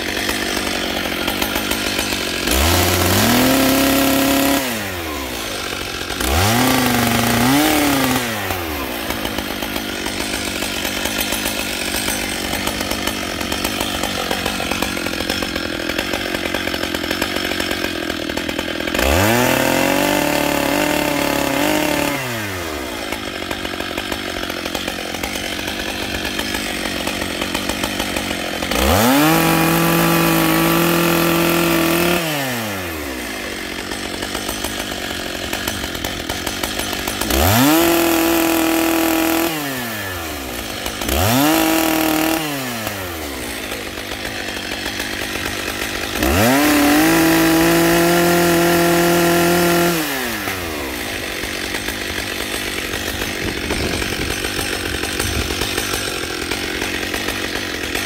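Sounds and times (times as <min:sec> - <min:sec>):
chainsaw engine idling and revving: 0:00.0 - 0:58.0.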